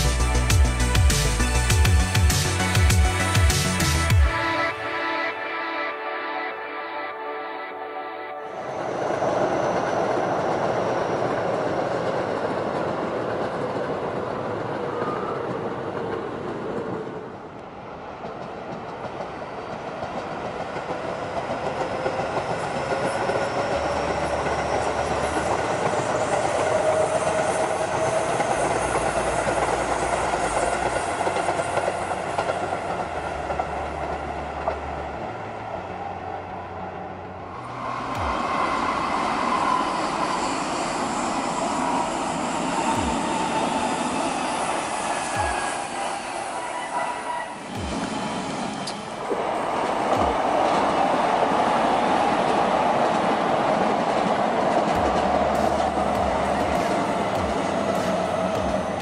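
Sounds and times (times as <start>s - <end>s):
electric train whining past: 0.0s - 59.0s.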